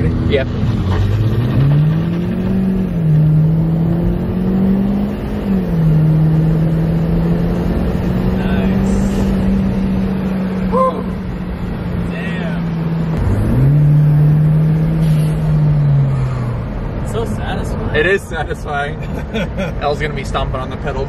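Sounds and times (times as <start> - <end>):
car engine accelerating hard: 0.0 - 20.9.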